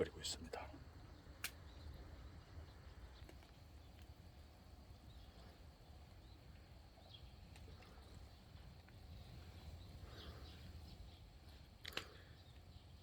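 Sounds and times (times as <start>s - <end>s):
faint crackles: 0.2s - 12.9s.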